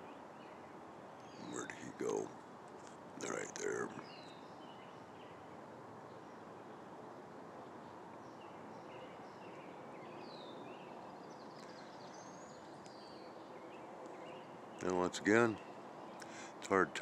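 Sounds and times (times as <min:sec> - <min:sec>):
faint outdoor background noise: 0:00.0 - 0:17.0
distant bird chirps: 0:01.2 - 0:06.3, 0:08.2 - 0:17.0.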